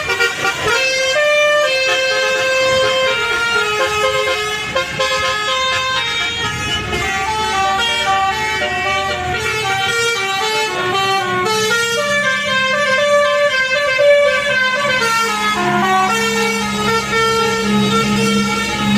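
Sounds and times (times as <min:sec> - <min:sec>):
multi-tone air horn melody: 0:00.0 - 0:18.9.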